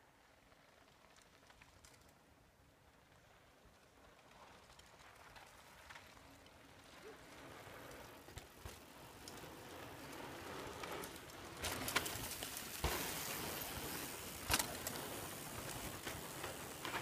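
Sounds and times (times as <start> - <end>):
bike clicks and rattles: 0.2 - 17.0
bike tyres hissing on dirt: 3.0 - 17.0.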